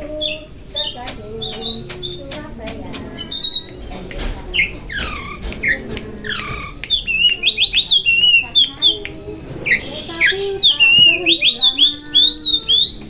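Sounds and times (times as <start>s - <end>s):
magpie-robin singing whistled song: 0.2s - 2.4s, 3.1s - 3.8s, 4.5s - 13.0s.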